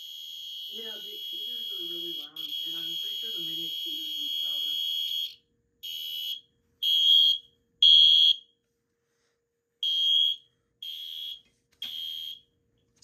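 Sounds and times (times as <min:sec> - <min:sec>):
shrill fire alarm horn blasts: 0:00.0 - 0:08.5, 0:09.8 - 0:12.4.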